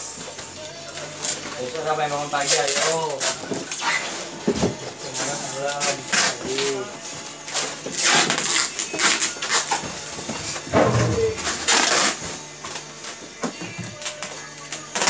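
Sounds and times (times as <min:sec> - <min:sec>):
packaging rustling and scraping: 0:00.0 - 0:13.2.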